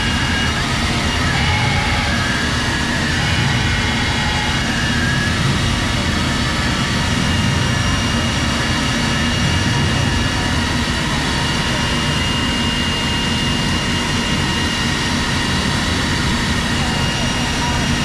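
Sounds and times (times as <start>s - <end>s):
engine drone: 0.0s - 18.0s
high continuous whine: 0.0s - 18.0s.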